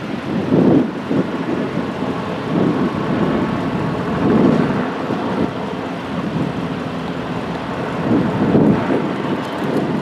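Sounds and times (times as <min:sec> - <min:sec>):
road traffic: 0:00.0 - 0:10.0
wind: 0:00.0 - 0:10.0.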